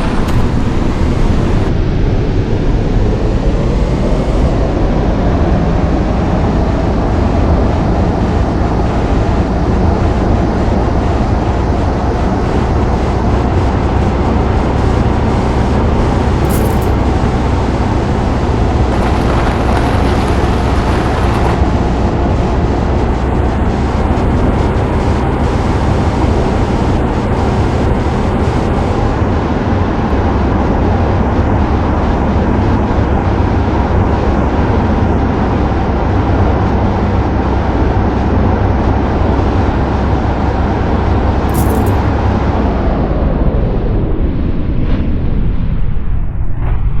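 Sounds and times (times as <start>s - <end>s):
loud low rumbling noise: 0.0s - 47.0s.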